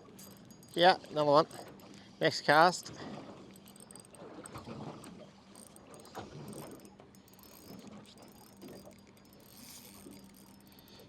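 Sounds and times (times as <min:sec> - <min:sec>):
fishing reel clicking and whirring: 0:00.0 - 0:11.0.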